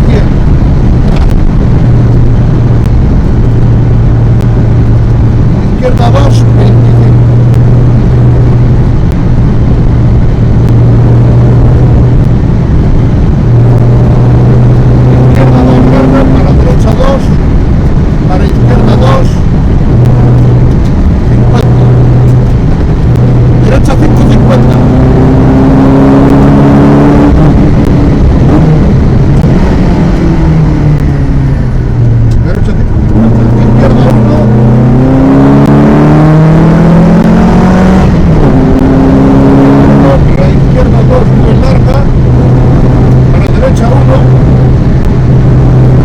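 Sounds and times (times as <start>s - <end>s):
car engine under load: 0.0s - 46.0s
road and tyre noise: 0.0s - 46.0s.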